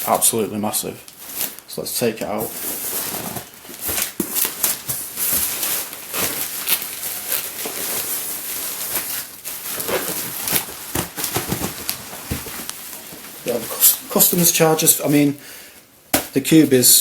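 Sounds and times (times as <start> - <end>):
cardboard and packing rustling: 0.0 - 15.4.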